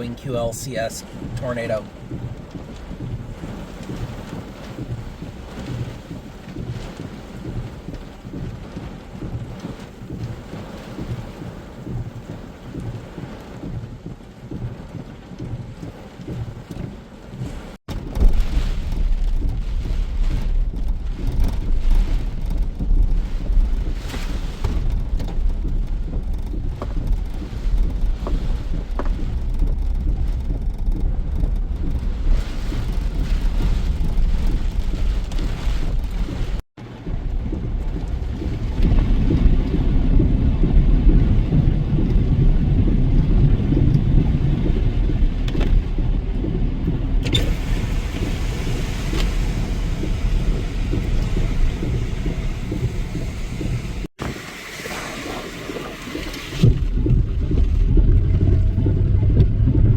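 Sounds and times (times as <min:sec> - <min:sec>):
high wind buffeting microphone: 0:00.0 - 0:54.4, 0:55.5 - 0:59.9
heavy rain: 0:00.0 - 0:59.9.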